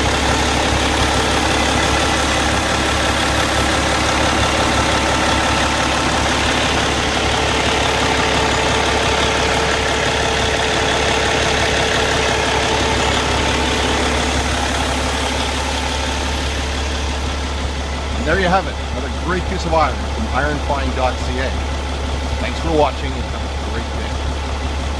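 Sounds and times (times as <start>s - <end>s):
diesel truck engine idling: 0.0s - 24.9s.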